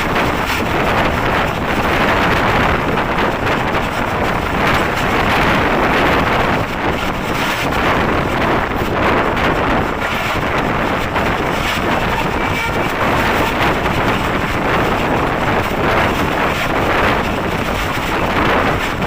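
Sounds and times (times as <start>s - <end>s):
train wheels rumbling on rail: 0.0s - 19.0s
wind buffeting microphone: 0.0s - 19.0s.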